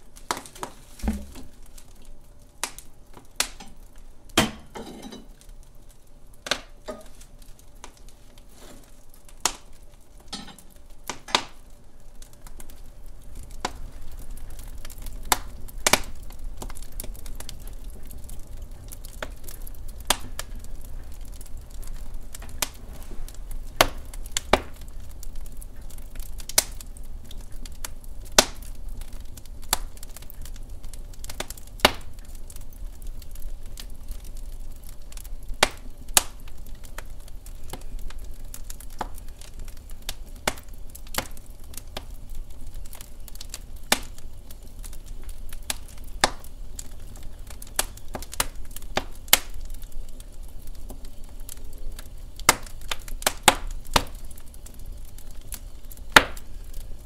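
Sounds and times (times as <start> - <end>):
burning logs crackling and popping: 0.0 - 57.0
low rumble of flames: 0.0 - 57.0.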